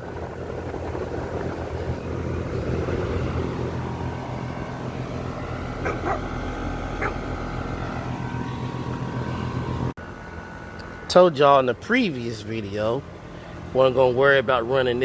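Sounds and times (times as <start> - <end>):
compressor low electrical hum: 0.0 - 15.0
fan air rushing: 0.0 - 15.0.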